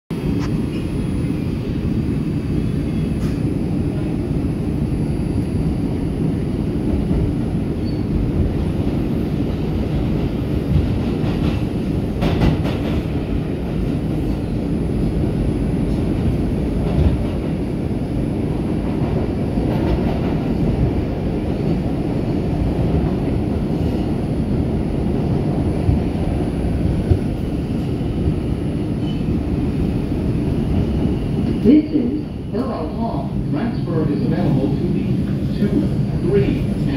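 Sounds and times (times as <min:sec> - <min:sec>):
subway train wheels rumbling: 0:00.1 - 0:36.9.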